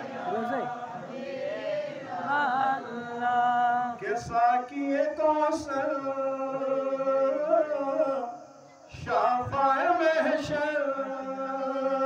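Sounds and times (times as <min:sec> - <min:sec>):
man singing unaccompanied: 0:02.2 - 0:12.0.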